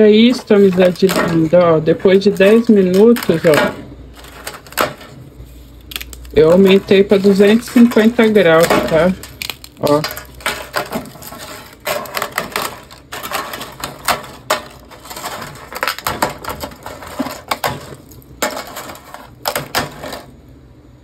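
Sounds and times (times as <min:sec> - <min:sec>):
crisp crackers snapping and crumpling: 0:02.2 - 0:20.3.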